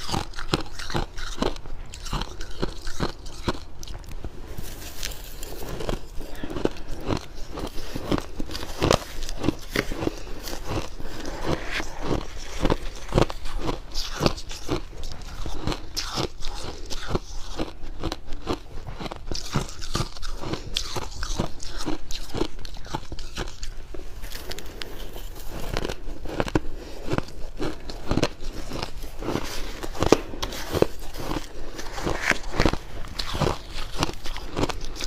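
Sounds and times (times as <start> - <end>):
frost crunching as chewed: 0.0 - 35.0.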